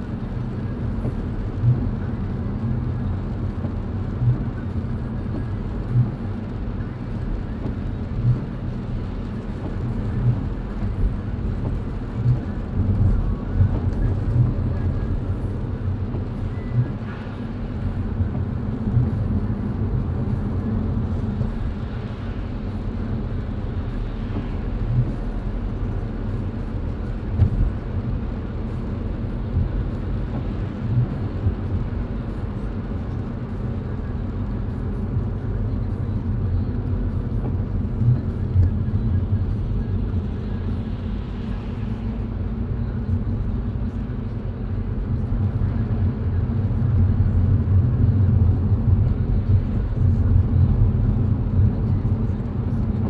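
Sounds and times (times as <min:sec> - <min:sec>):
car tyres and engine rumble: 0:00.0 - 0:53.0.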